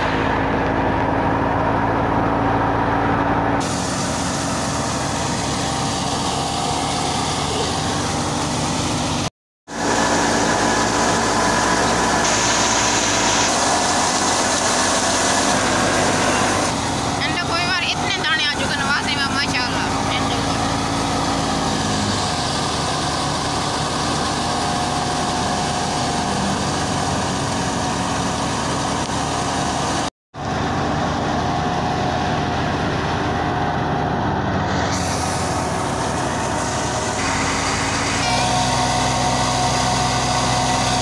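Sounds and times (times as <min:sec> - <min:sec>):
threshing machine whine: 0:00.0 - 0:41.0
tractor engine drone: 0:00.0 - 0:41.0.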